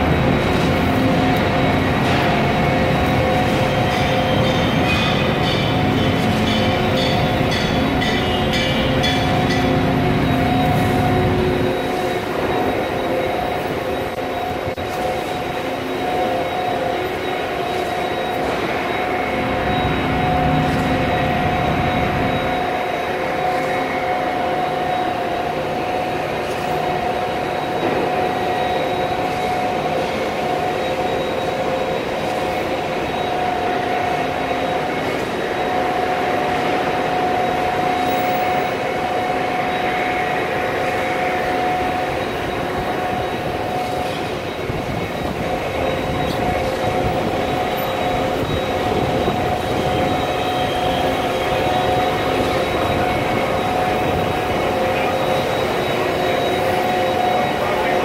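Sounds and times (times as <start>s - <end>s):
concrete mixer trucks running: 0.0s - 58.0s
high mechanical whine: 0.0s - 58.0s.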